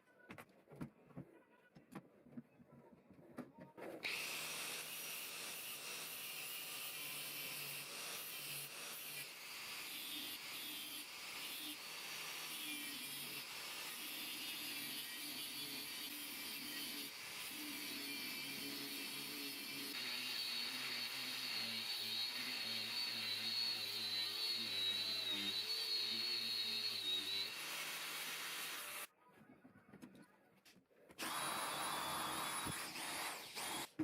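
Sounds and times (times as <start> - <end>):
power tool grinding: 4.0 - 29.1, 31.2 - 34.0.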